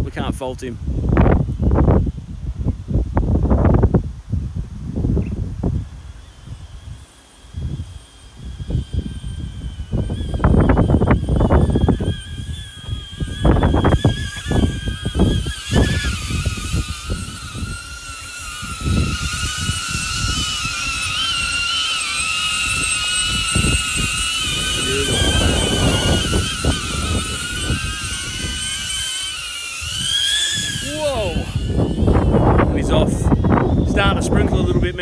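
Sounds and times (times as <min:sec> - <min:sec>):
wind buffeting microphone: 0:00.0 - 0:35.0
drone propellers whining: 0:05.2 - 0:35.0.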